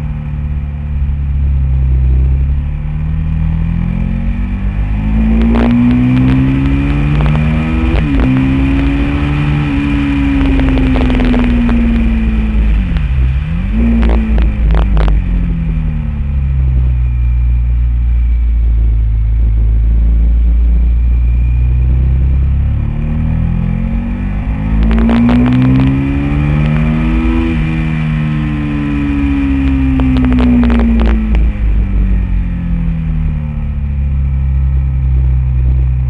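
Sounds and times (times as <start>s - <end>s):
motorcycle engine running hard: 0.0s - 36.0s
wind rumble on microphone: 0.0s - 36.0s.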